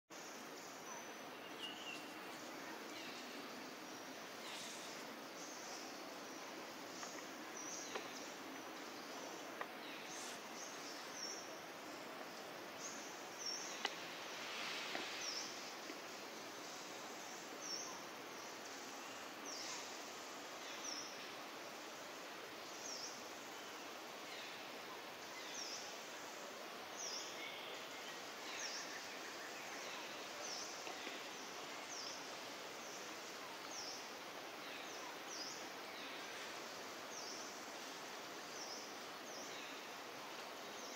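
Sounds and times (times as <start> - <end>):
steady hiss: 0.1 - 40.9.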